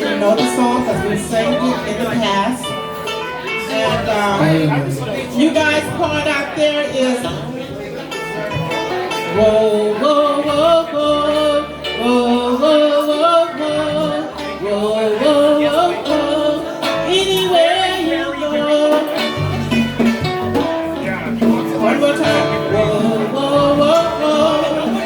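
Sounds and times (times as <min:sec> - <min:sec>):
person singing: 0:00.0 - 0:07.5, 0:09.1 - 0:20.3, 0:21.0 - 0:25.0
instrumental accompaniment with bass: 0:00.0 - 0:25.0.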